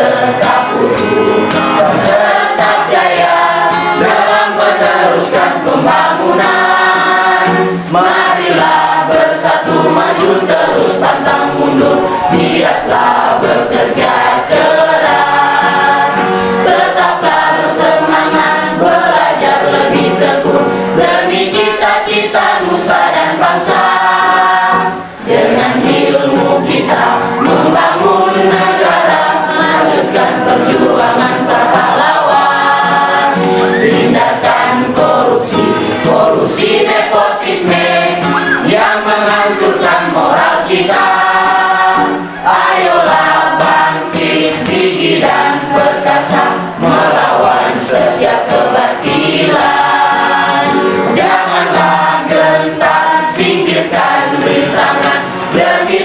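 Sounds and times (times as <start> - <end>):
group singing with instruments: 0.0 - 56.0.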